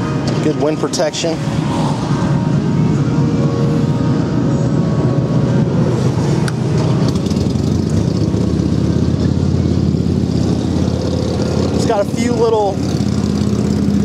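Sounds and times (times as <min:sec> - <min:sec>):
motorcycle engine idling: 0:02.6 - 0:14.0.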